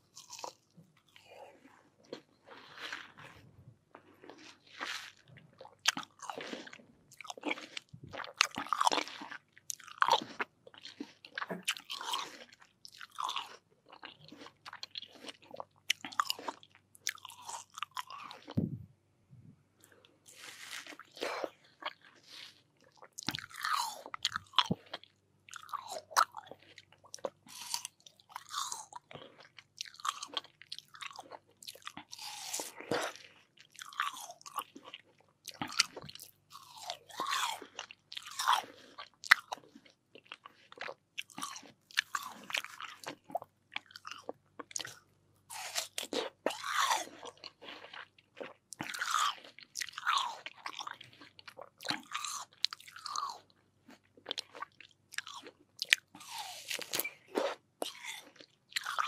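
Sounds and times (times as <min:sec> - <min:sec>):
crunchy watermelon bites: 0:00.0 - 0:03.4, 0:04.0 - 0:18.8, 0:19.9 - 0:59.0
wet chewing: 0:00.0 - 0:18.7, 0:19.8 - 0:59.0.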